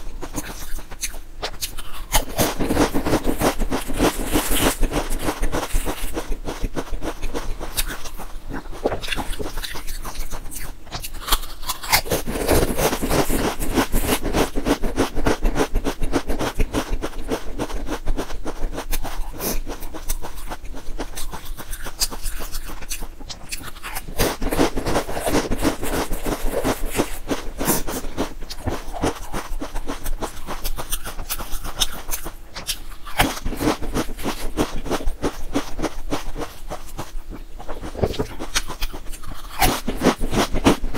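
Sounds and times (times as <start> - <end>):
potato chips crunching: 0.0 - 40.9.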